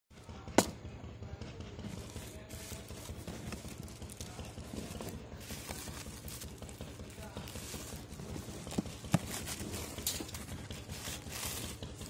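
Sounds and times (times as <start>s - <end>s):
cardboard flaps and plastic handled: 1.8s - 12.0s.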